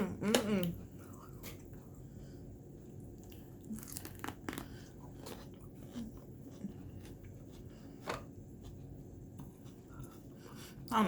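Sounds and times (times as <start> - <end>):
person chewing food: 0.6 - 10.9.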